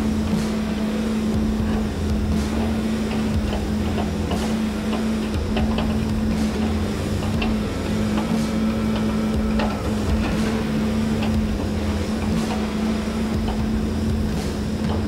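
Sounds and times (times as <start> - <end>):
diesel engine hum: 0.0 - 15.0.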